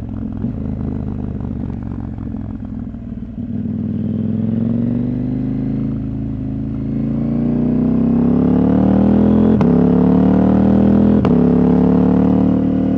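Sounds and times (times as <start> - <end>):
motorcycle engine accelerating: 0.0 - 12.9.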